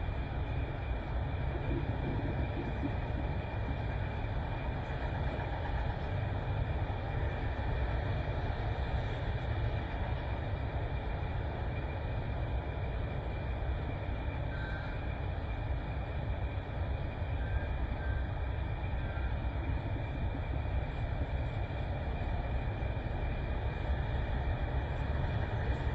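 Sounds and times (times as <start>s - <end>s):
diesel truck engine rumble: 0.0s - 25.9s.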